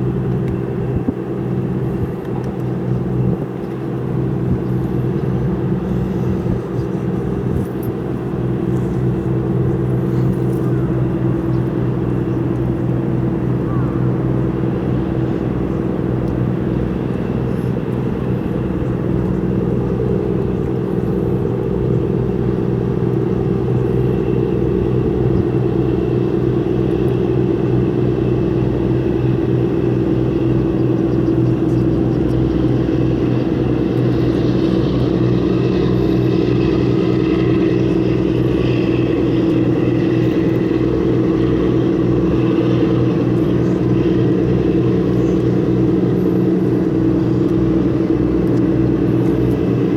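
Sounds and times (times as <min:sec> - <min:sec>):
engine droning hum: 0:00.0 - 0:49.9.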